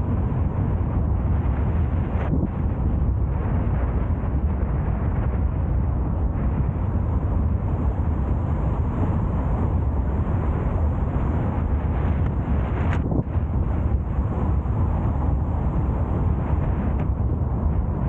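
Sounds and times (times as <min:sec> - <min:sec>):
road and tyre noise: 0:00.0 - 0:18.0
wind buffeting microphone: 0:00.0 - 0:18.0.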